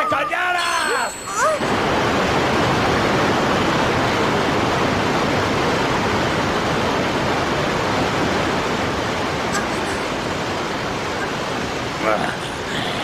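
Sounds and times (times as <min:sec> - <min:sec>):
steady rushing noise: 0:01.0 - 0:13.0.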